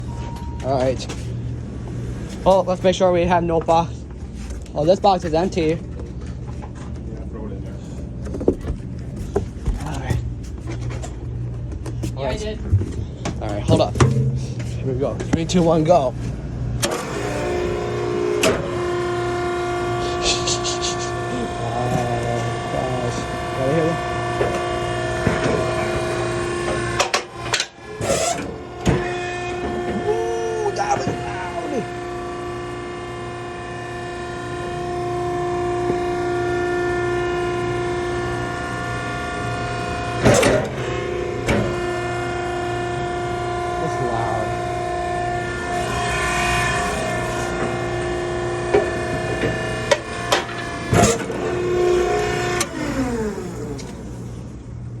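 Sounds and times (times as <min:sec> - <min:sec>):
hydraulic unit whining: 0:00.0 - 0:55.0.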